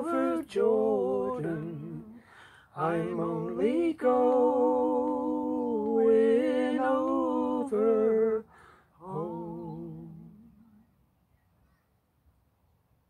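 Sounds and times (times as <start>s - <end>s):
man and woman singing in harmony: 0.0s - 10.7s.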